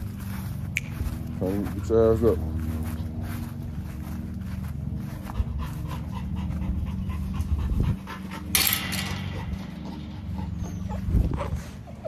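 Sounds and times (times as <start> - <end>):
dog panting: 1.5 - 12.0.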